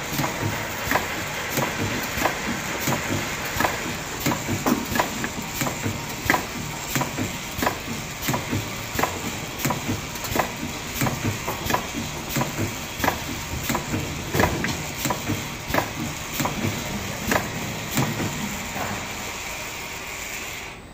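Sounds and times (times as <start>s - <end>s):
sharp machine clacks: 0.0s - 20.3s
machine hiss and hum: 0.0s - 20.9s.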